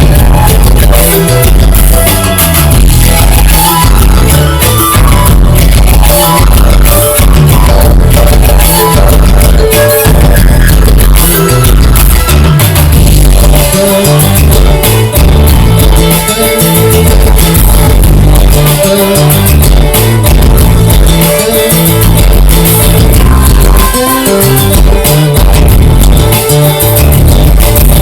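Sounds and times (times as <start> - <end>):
salsa-like music through speakers: 0.0 - 28.0.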